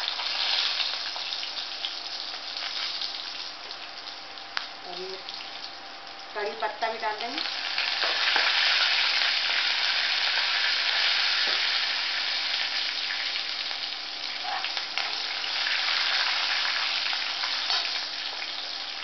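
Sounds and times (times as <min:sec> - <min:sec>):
leaves sizzling in hot oil: 0:00.0 - 0:19.0.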